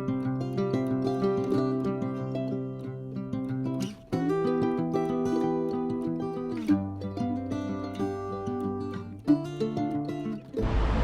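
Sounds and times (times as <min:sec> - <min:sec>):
acoustic guitar playing chords: 0:00.0 - 0:11.0.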